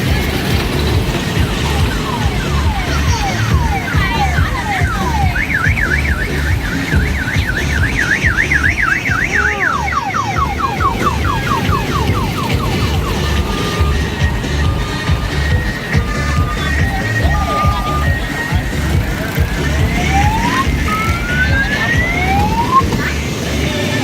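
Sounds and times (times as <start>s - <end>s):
steady low beat: 0.0s - 23.4s
electronic siren: 0.0s - 24.0s.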